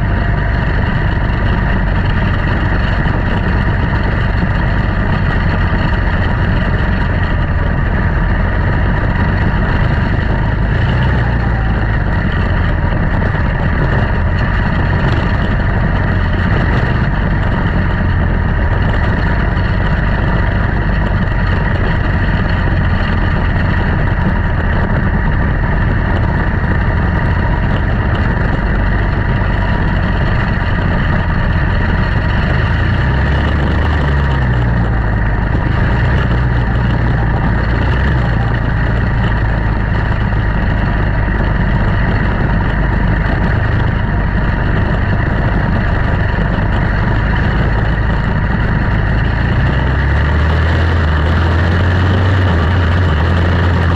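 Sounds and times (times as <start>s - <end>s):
small race car engines running: 0.0s - 53.9s.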